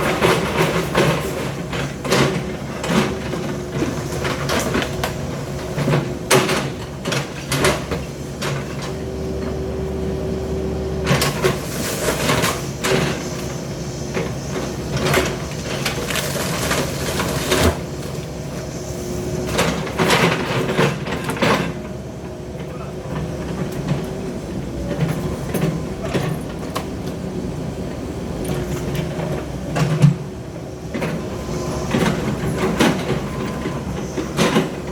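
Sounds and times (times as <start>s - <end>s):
demolition machine engine running: 0.0s - 34.9s.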